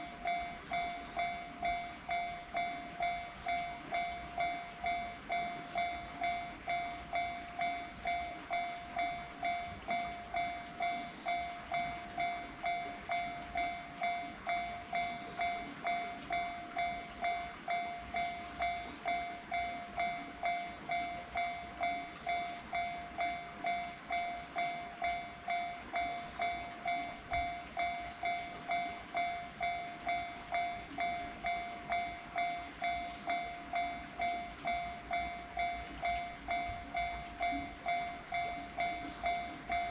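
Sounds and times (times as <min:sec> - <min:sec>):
level crossing warning bell: 0:00.0 - 0:39.9.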